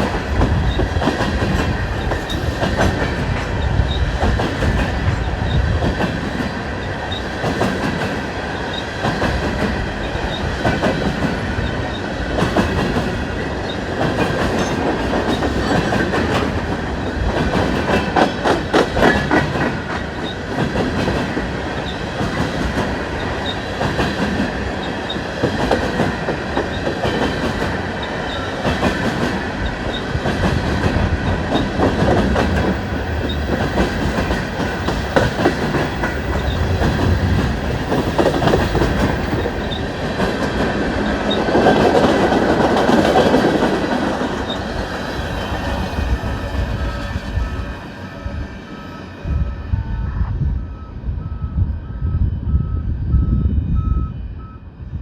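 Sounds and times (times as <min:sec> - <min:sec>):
train wheels clacking over rail joints: 0:00.0 - 0:11.5, 0:12.3 - 0:45.6
train rumble: 0:00.0 - 0:55.0.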